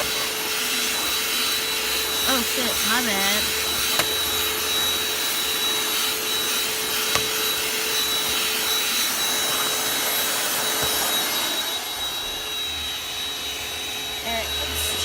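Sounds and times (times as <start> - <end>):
vacuum cleaner motor whine: 0.0 - 15.0
vacuum tool scraping upholstery: 0.0 - 15.0.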